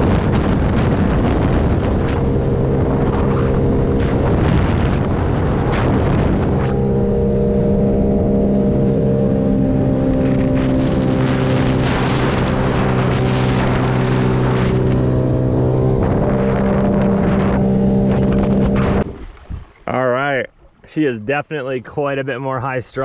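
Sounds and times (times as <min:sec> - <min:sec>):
wind rush: 0:00.0 - 0:19.8
watercraft engine at high revs: 0:00.0 - 0:20.4.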